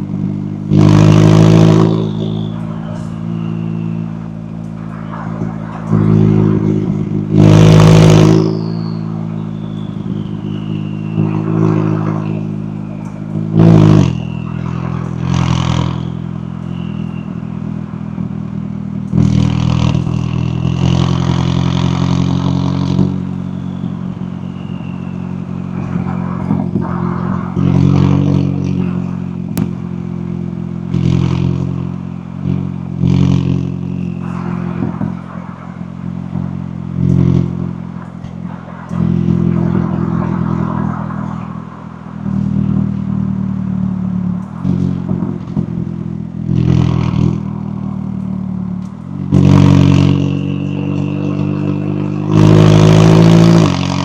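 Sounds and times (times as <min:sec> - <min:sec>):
car engine revving: 0:00.0 - 0:54.0
turbo whistle: 0:00.7 - 0:18.4, 0:19.6 - 0:29.8, 0:33.9 - 0:45.1, 0:49.0 - 0:54.0.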